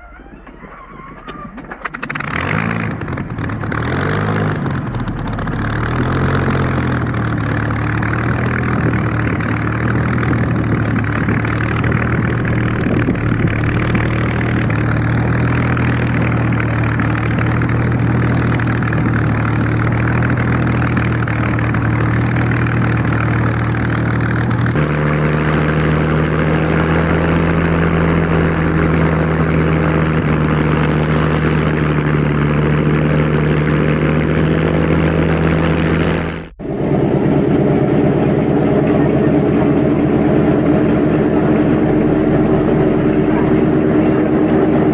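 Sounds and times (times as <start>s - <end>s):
aircraft engine running: 0.0s - 44.9s.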